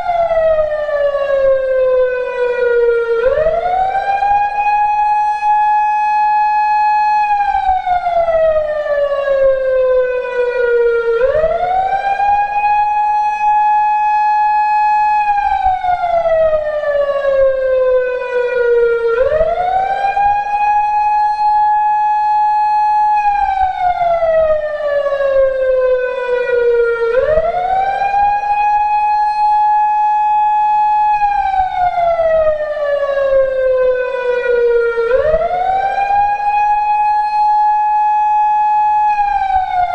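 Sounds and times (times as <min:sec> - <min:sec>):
electronic siren slow wail: 0:00.0 - 0:39.9.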